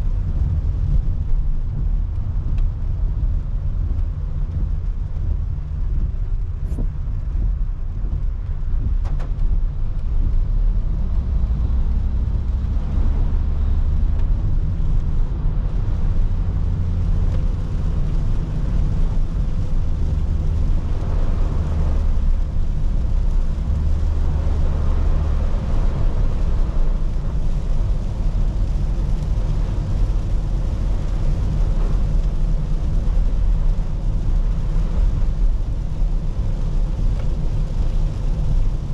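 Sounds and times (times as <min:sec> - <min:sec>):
hiss of tyres and rain: 0:00.0 - 0:38.9
road and engine rumble: 0:00.0 - 0:38.9.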